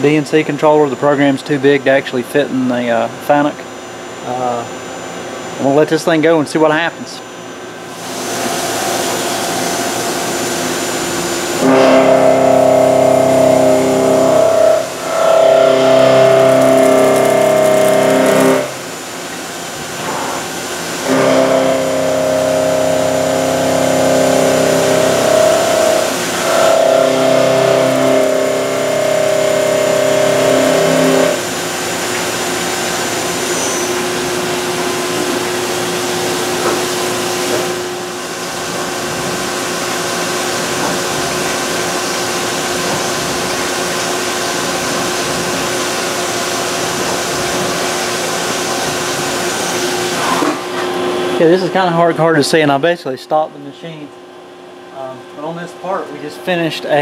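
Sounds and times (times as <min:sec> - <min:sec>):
milling machine spindle whine: 0:03.8 - 0:52.3.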